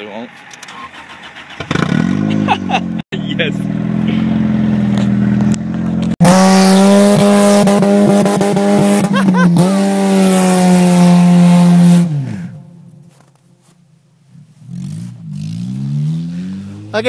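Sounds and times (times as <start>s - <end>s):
tires spinning on snow: 0.7s - 17.0s
car engine revving high: 1.0s - 12.7s, 14.6s - 17.0s.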